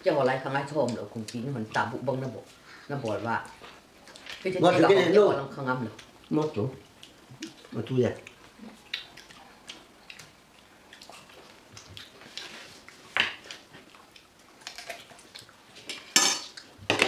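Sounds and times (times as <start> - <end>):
people chewing fruit: 0.0 - 16.9.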